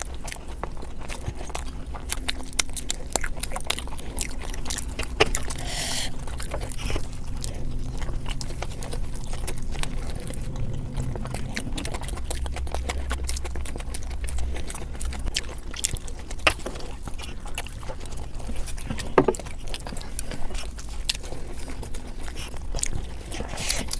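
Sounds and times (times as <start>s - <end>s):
low background rumble: 0.0s - 23.9s
person chewing food: 0.0s - 23.9s.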